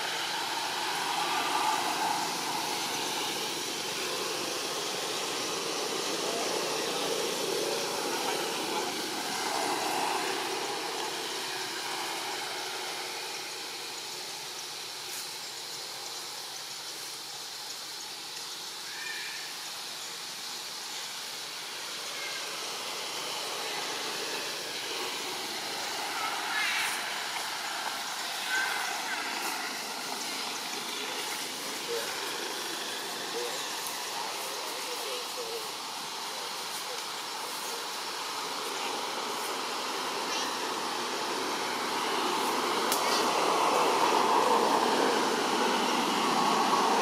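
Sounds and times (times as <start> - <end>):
outdoor ambient hiss: 0.0 - 47.0.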